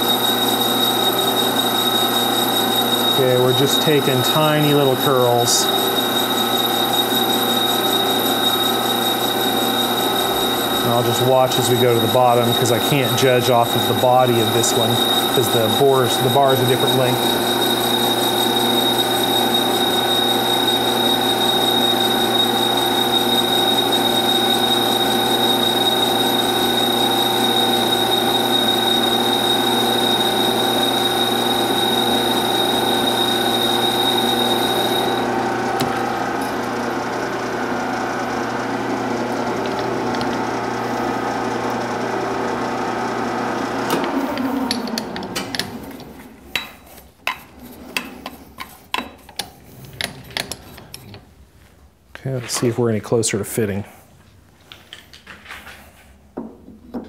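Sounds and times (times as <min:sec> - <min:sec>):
metal lathe humming and whining: 0:00.0 - 0:46.6.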